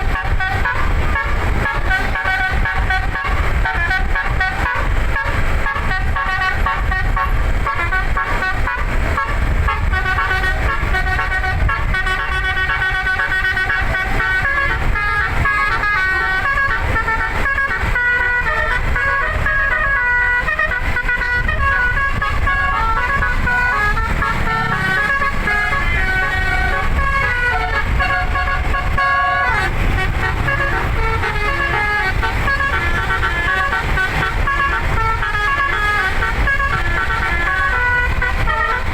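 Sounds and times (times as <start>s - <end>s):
musical air horn melody: 0.0s - 38.9s
steady low rumble: 0.0s - 38.9s.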